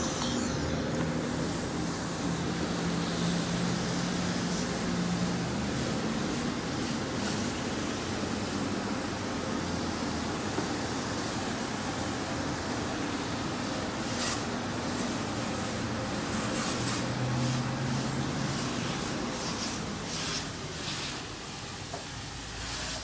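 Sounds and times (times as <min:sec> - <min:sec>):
pressure wand spraying water: 0:00.0 - 0:23.0.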